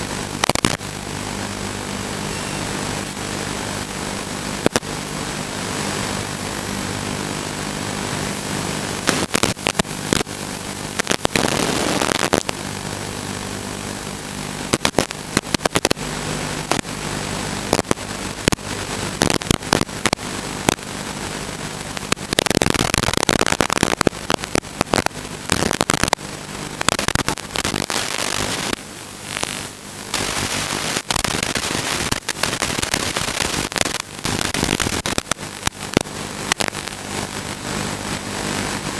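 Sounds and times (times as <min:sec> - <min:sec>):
static hiss: 0:00.0 - 0:38.9
steady buzz: 0:00.0 - 0:38.9.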